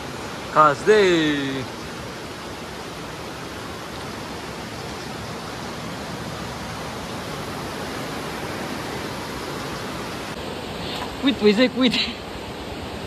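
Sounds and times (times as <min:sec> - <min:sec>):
fast river rushing: 0:00.0 - 0:13.0.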